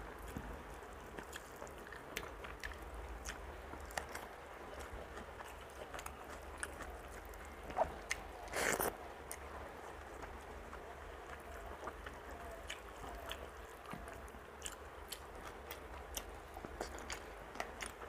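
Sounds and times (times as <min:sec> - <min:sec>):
wet chewing: 0:00.2 - 0:18.0.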